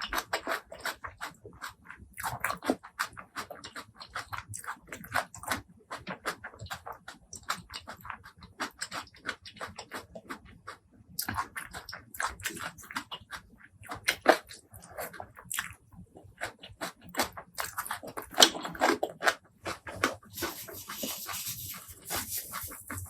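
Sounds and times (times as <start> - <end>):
chewing and mouth smacks: 0.0 - 23.0.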